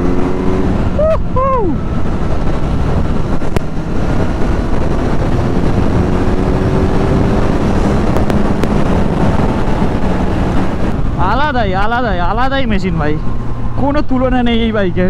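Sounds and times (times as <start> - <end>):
motorcycle engine hum: 0.0 - 15.0
wind buffeting microphone: 0.0 - 15.0.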